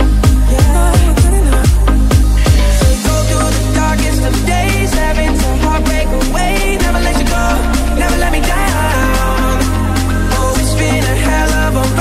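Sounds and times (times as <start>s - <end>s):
music with deep bass and drums: 0.0s - 12.0s.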